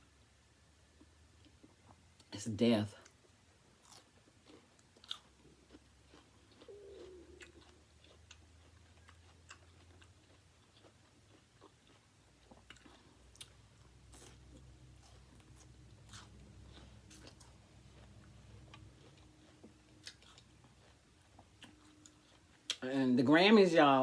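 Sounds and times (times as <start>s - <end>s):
chewing and biting: 3.0s - 22.8s.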